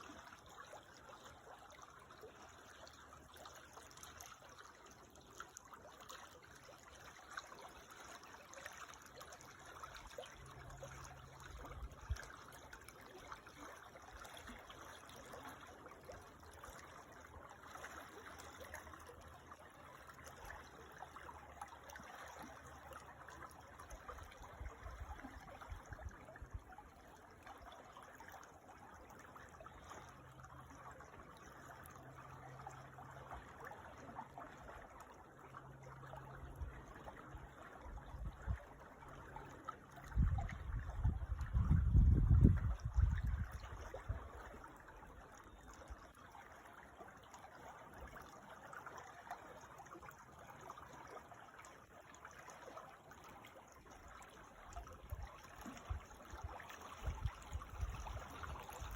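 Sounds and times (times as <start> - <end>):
creek trickling: 0.0 - 58.9.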